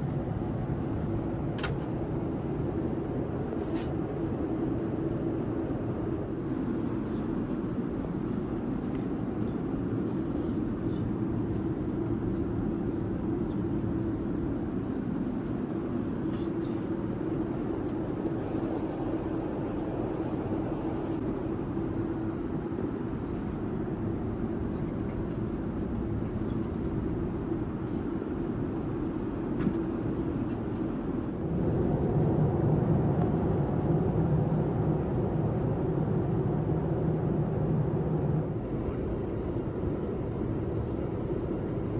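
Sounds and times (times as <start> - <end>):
airliner cabin noise: 0.0 - 41.9.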